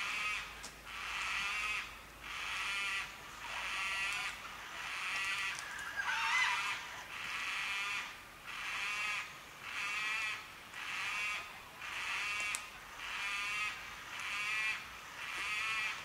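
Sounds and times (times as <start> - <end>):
cockatoo calling: 0.0 - 16.0.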